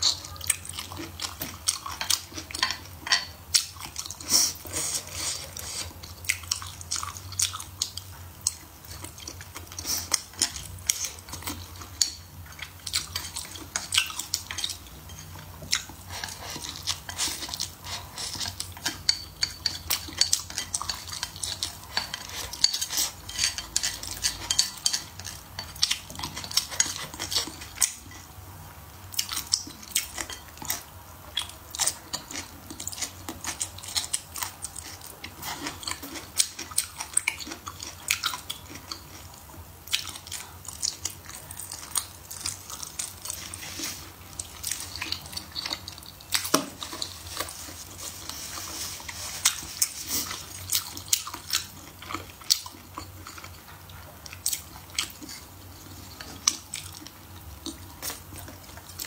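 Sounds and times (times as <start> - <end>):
chewing and mouth sounds: 0.0 - 28.4, 29.1 - 59.0.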